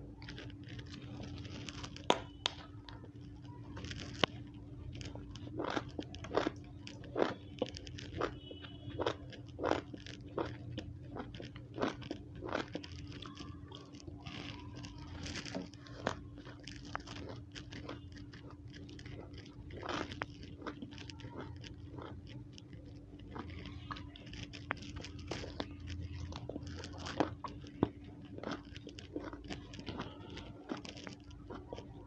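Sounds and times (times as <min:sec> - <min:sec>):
crunchy chewing: 0:00.0 - 0:32.0
faint steady hum: 0:00.0 - 0:32.0.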